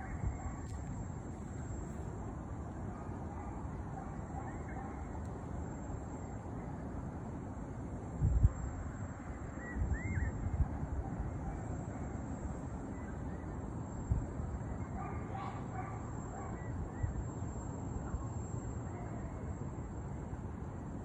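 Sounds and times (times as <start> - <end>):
night city background noise: 0.0 - 21.0.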